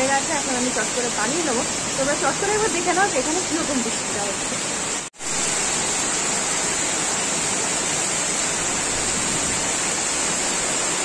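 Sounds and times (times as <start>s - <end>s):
torrential rain pouring: 0.0s - 11.0s.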